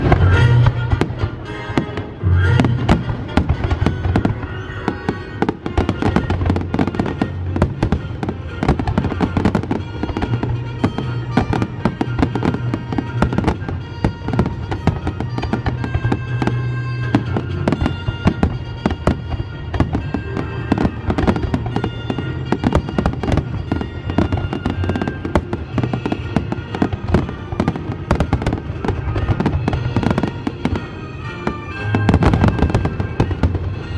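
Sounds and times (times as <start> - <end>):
fireworks bangs and crackles: 0.0 - 33.9
music with held notes: 0.0 - 33.9.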